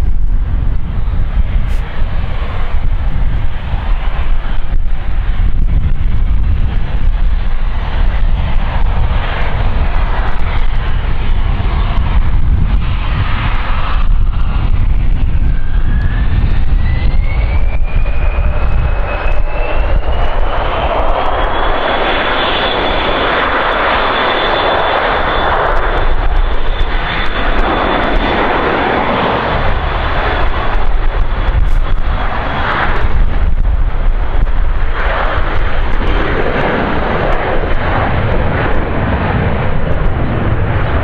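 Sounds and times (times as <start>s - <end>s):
deep jet rumble: 0.0s - 41.0s
jet engine whine: 0.0s - 41.0s.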